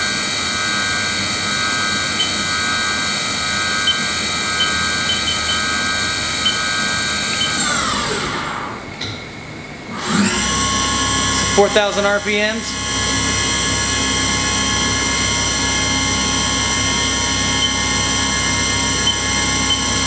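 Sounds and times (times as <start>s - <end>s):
machine spindle whine: 0.0s - 20.0s.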